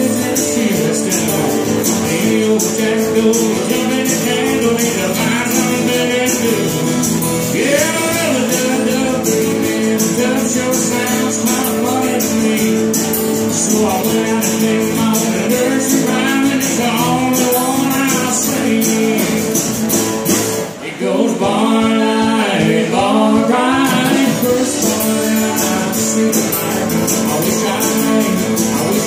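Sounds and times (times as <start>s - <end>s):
live country band playing: 0.0s - 29.0s.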